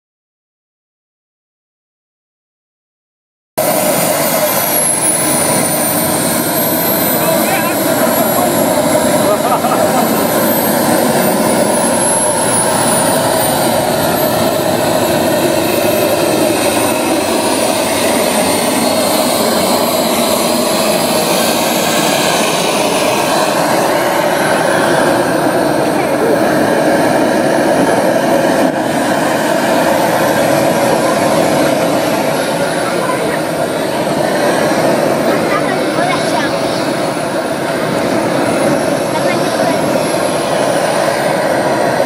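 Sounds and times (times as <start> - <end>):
model jet engine whine: 3.6 - 42.0.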